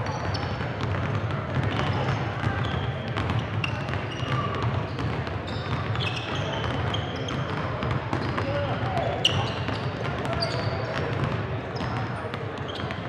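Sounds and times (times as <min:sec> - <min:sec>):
sneaker squeaks: 0:00.0 - 0:13.0
basketballs bouncing on hardwood floor: 0:00.2 - 0:13.0.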